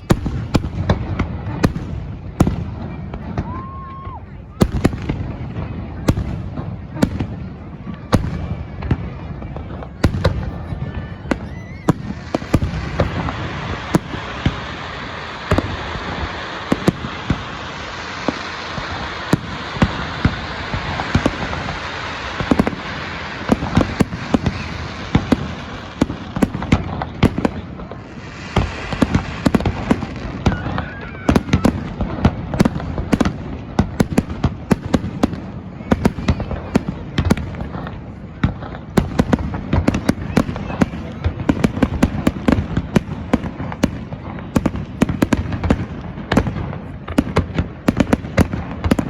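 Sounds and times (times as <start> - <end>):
fireworks bangs: 0.0 - 49.0
fireworks crackling hiss: 0.0 - 49.0.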